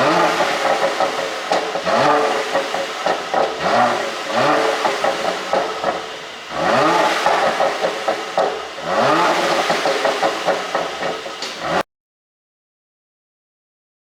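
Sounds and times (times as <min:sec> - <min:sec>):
car exhaust revving: 0:00.0 - 0:11.8
exhaust pops and crackles: 0:00.0 - 0:11.8.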